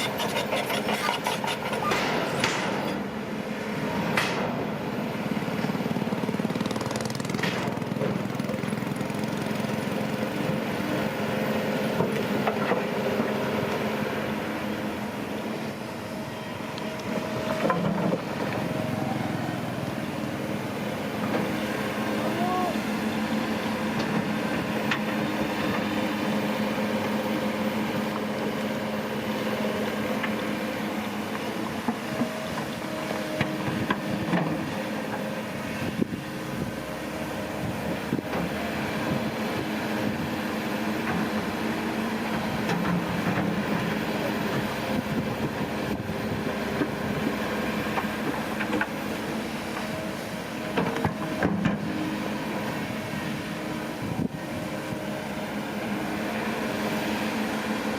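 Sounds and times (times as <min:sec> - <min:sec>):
heavy diesel machinery running: 0:00.0 - 0:57.9.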